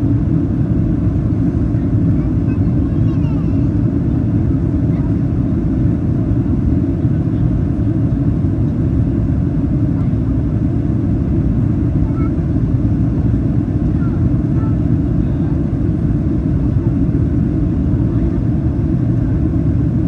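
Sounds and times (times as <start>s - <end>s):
airplane engines: 0.0s - 20.0s.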